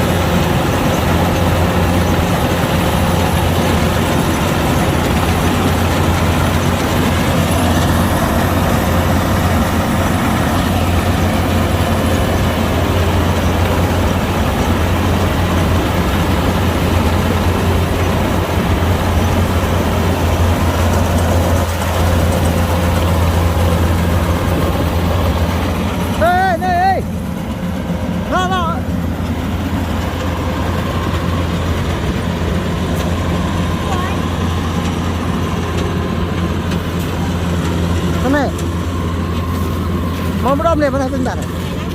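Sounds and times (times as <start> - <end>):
combine harvester engine running: 0.0 - 41.9.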